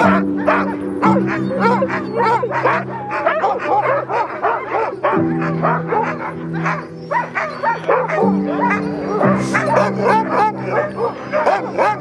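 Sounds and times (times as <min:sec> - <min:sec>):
background music chords: 0:00.0 - 0:12.0
dogs barking and yelping: 0:00.0 - 0:12.0.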